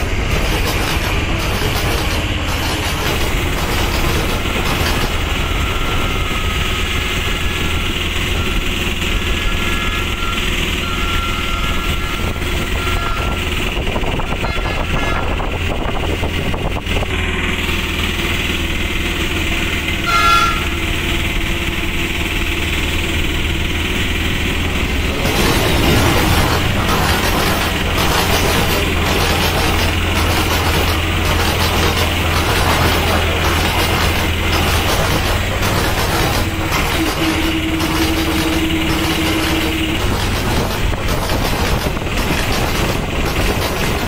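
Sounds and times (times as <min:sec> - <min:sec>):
moving train rumble: 0:00.0 - 0:44.0.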